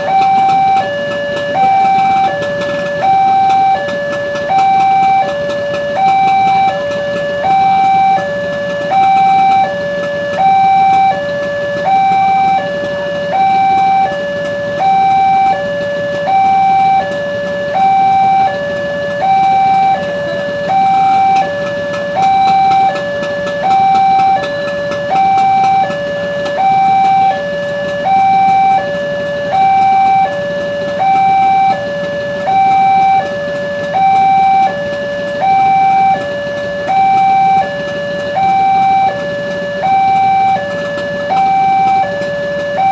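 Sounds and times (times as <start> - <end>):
level-crossing two-tone alarm: 0.0 - 42.9.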